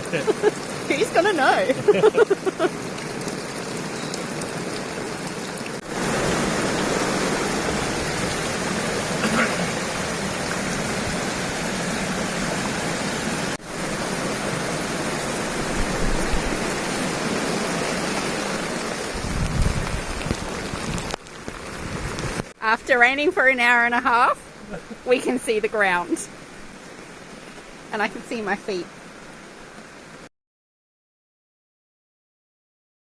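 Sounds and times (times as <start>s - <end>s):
heavy rain: 0.0s - 30.3s
rainwater running and pouring: 0.0s - 30.3s.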